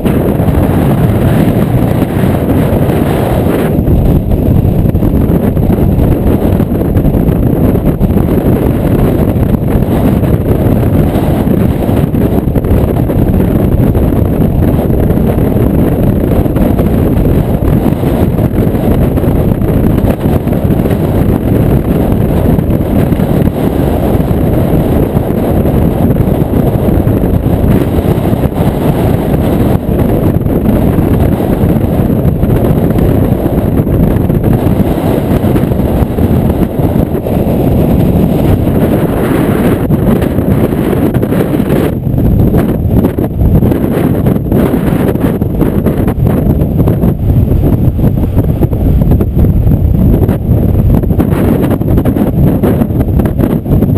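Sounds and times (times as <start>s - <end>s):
strong wind buffeting microphone: 0.0s - 53.9s.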